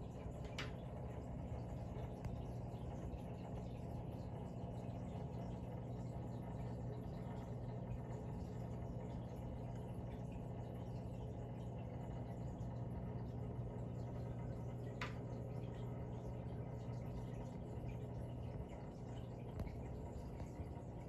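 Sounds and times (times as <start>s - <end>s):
aquarium pump hum: 0.0s - 21.0s.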